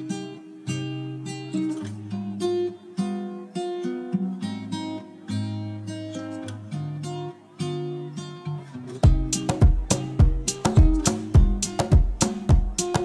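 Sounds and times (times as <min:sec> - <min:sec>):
acoustic guitar plucked and strummed: 0:00.0 - 0:13.0.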